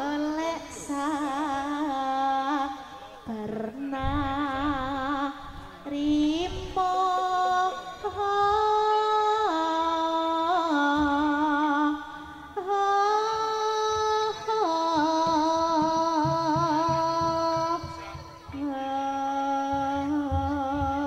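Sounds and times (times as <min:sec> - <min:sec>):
woman singing into a microphone: 0:00.0 - 0:21.0.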